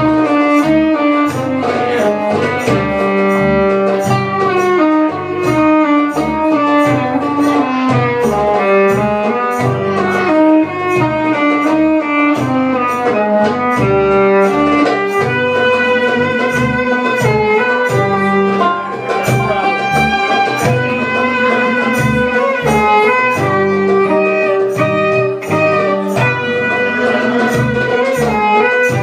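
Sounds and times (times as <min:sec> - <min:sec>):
bass guitar: 0:00.0 - 0:29.0
plucked lute: 0:00.0 - 0:29.0
steady drum beat: 0:00.0 - 0:29.0
violin melody: 0:00.0 - 0:29.0.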